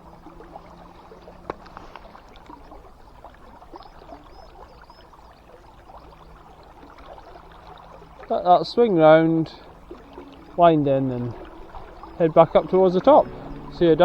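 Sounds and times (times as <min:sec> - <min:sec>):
river water flowing and lapping: 0:00.0 - 0:14.0.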